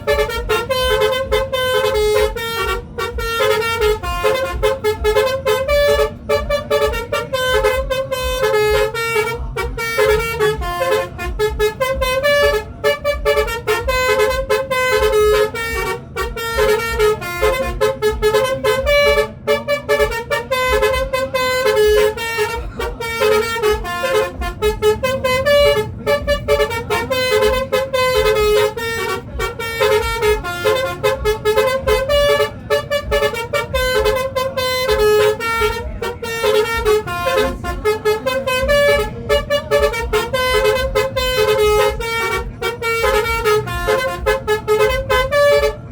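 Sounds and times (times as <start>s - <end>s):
multi-tone bus horn melody: 0.0s - 45.9s.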